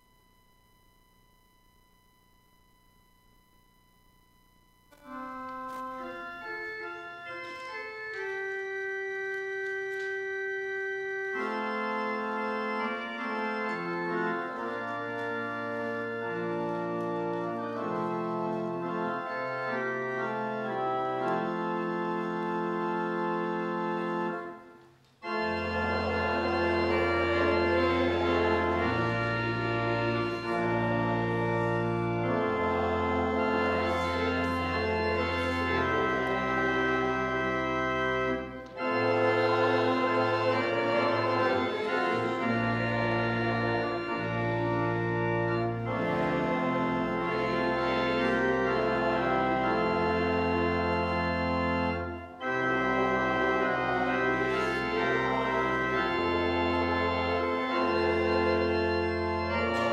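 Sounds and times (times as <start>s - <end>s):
church organ playing a hymn: 4.9s - 59.9s.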